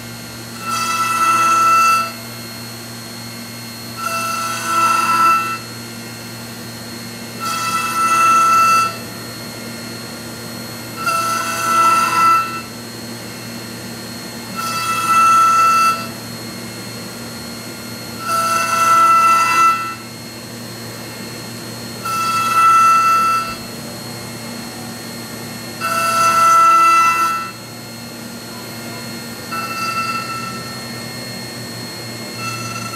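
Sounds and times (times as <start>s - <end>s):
buzzing cutter on wood: 0.0s - 32.9s
milling machine spindle whine: 0.0s - 32.9s.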